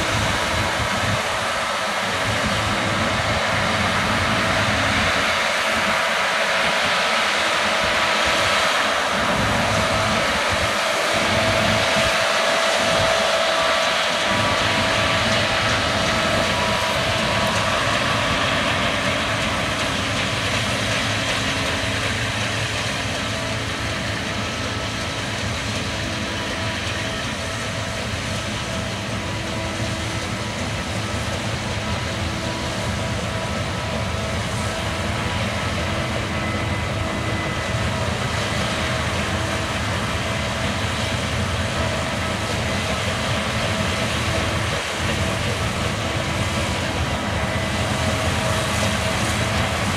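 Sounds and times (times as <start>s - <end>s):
combine harvester running: 0.0s - 49.9s
faint machine whine: 0.0s - 49.9s.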